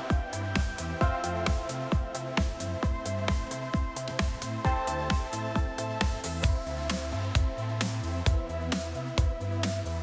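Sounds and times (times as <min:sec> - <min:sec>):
electronic music with bass: 0:00.0 - 0:10.0.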